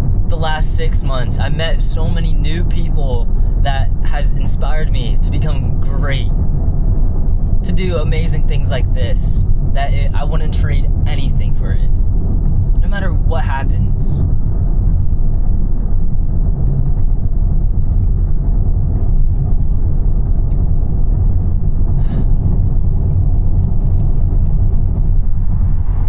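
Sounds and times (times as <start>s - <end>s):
road rumble inside moving car: 0.0s - 26.0s.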